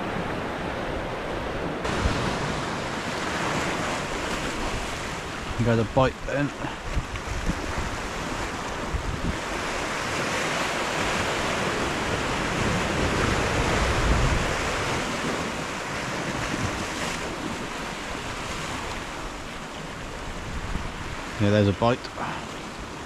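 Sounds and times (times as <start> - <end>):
wind buffeting microphone: 0.0 - 21.4
surf breaking against rocks: 1.8 - 21.4.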